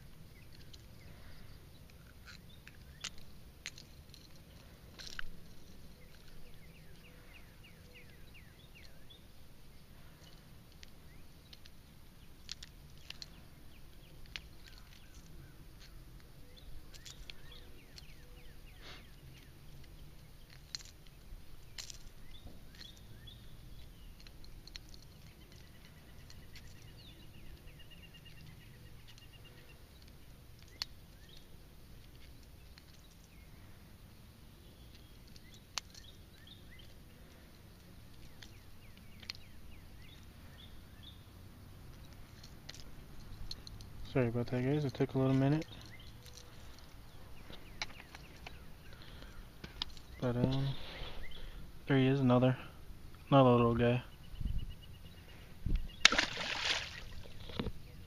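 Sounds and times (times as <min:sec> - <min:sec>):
bird chirps: 0:00.0 - 0:58.0.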